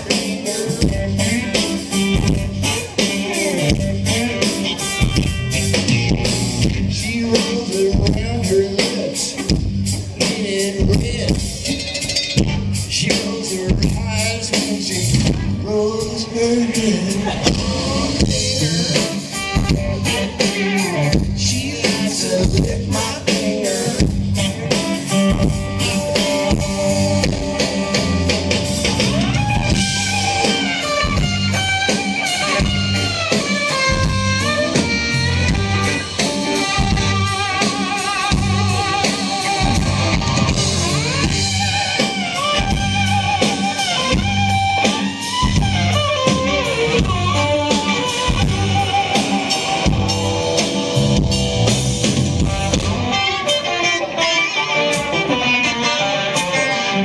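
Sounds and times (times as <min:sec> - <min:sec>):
drum kit beat: 0:00.0 - 0:57.0
electric guitars: 0:00.0 - 0:57.0
lead guitar bending notes: 0:00.0 - 0:57.0.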